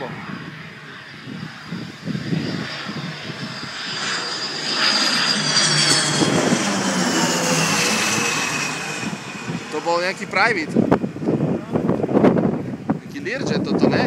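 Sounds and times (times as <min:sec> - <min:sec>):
jet passing with turbine whine: 0:00.0 - 0:14.0.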